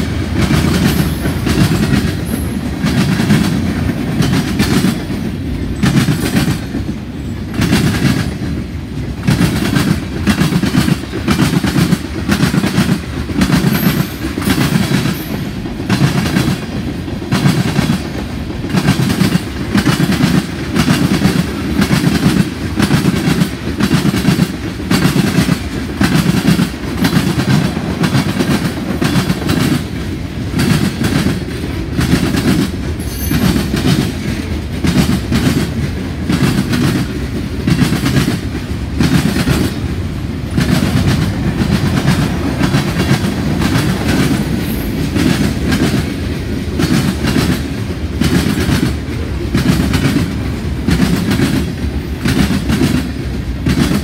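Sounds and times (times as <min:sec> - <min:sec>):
train rumble: 0:00.0 - 0:54.0
train wheels clacking over rail joints: 0:00.0 - 0:54.0.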